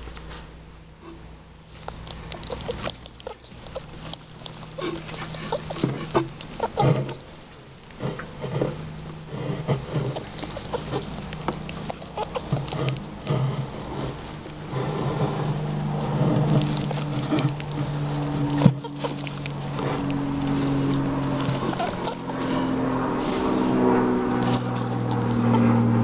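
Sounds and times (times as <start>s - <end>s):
low steady hum: 0.0s - 26.0s
straw nest rustling and crackling: 1.6s - 26.0s.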